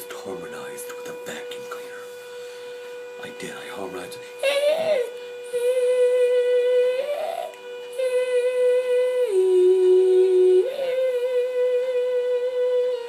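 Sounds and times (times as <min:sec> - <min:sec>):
man humming: 0:00.0 - 0:13.0
vacuum cleaner whine: 0:00.0 - 0:13.0.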